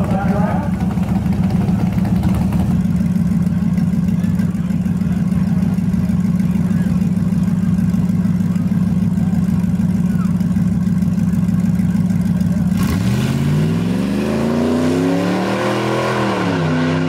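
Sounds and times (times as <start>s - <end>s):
truck engine idling: 0.0s - 14.6s.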